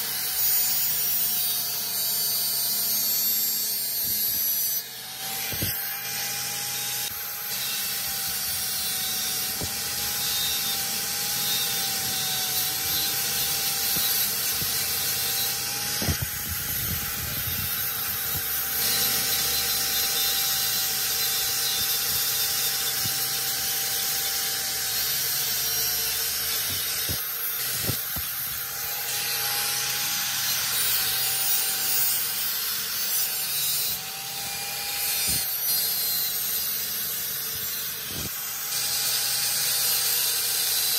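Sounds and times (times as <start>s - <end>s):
angle grinder motor whine: 0.0s - 40.9s
disc grinding steel: 0.0s - 40.9s.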